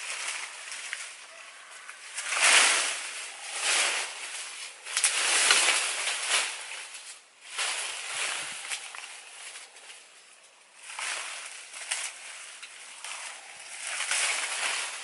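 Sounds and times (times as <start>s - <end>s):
leafy branches rustling: 0.0s - 15.0s.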